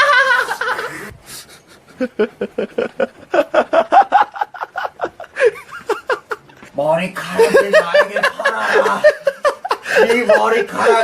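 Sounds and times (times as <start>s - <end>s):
person laughing: 0.0s - 6.6s, 7.2s - 11.0s.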